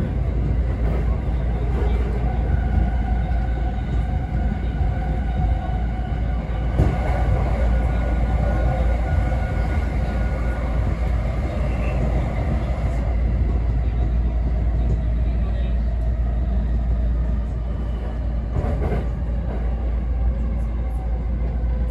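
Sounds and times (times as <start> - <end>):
passing train rush: 0.0 - 21.9
train wheels rumbling: 0.0 - 21.9.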